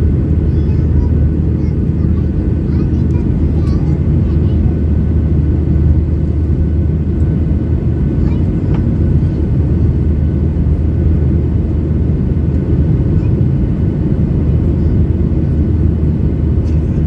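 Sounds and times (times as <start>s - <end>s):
airplane cabin engine roar: 0.0s - 17.0s.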